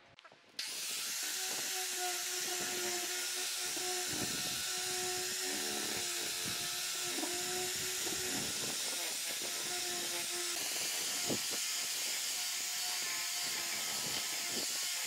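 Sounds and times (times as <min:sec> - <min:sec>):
power tool running: 0:00.6 - 0:15.0.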